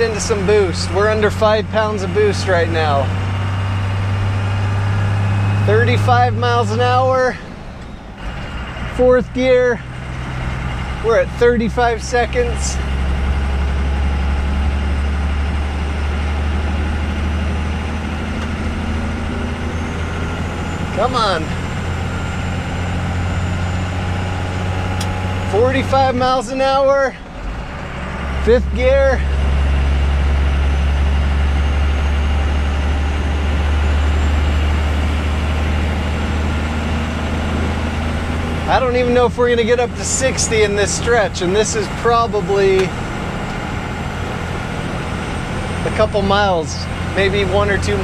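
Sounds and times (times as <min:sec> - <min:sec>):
diesel engine droning: 0:00.0 - 0:48.0
road noise: 0:00.0 - 0:48.0.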